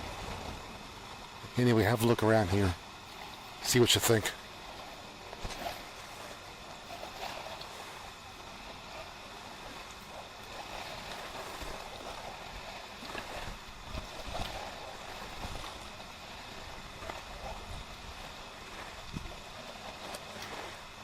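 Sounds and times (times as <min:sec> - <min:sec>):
water rushing: 0:00.0 - 0:21.0
wind: 0:00.0 - 0:21.0.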